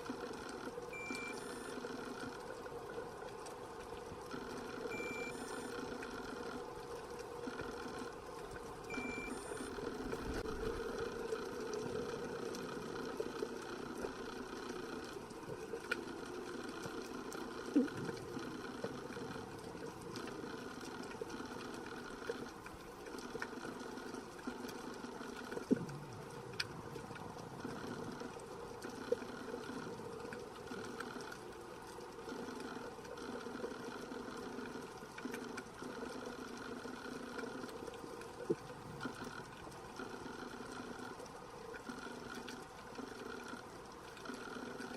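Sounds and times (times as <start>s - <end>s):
faint underwater clicks: 0.0s - 44.9s
underwater low drone: 0.0s - 44.9s.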